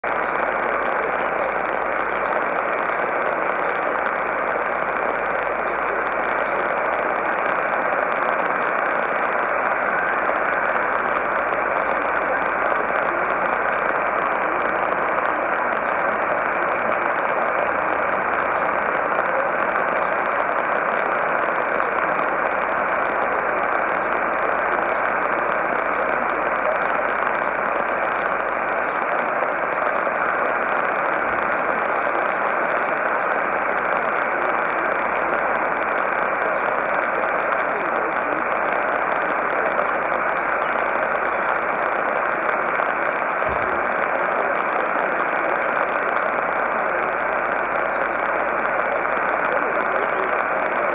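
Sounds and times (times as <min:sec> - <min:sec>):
radio static hiss: 0:00.0 - 0:50.9.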